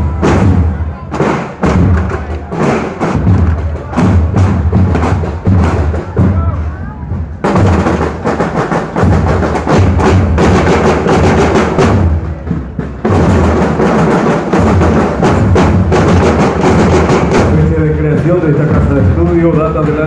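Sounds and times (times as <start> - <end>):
marching band drums: 0.0 - 20.0.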